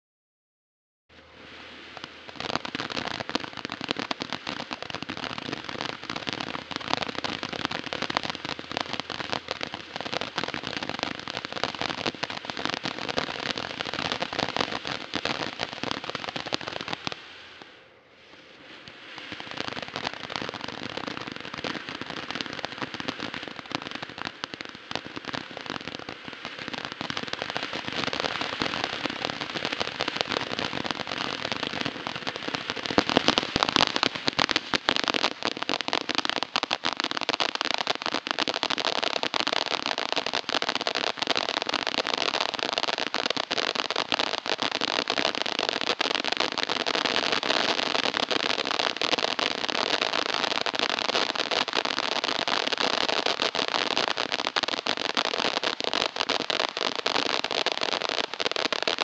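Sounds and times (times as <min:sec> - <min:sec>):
firework fountain hissing and crackling: 0:01.1 - 0:59.0.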